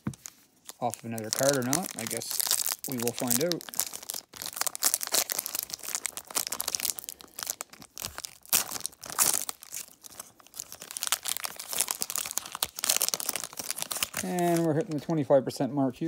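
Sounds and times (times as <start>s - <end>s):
foil wrapper crinkling and ripping: 0.0s - 15.0s.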